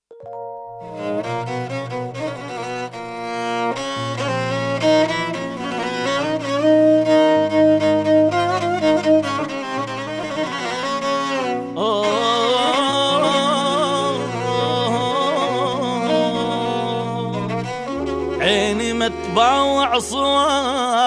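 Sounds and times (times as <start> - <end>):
bowed-string melody: 0.2 - 21.0.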